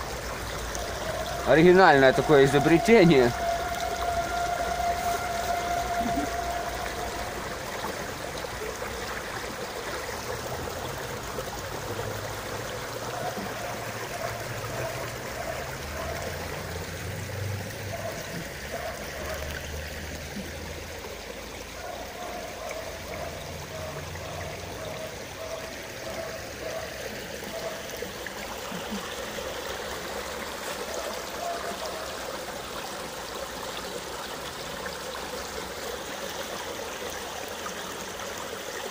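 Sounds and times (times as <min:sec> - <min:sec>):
river water rushing over stones: 0:00.0 - 0:38.9.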